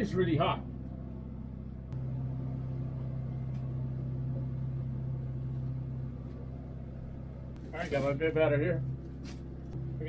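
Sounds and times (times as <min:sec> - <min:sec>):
generator humming: 0:00.0 - 0:10.0.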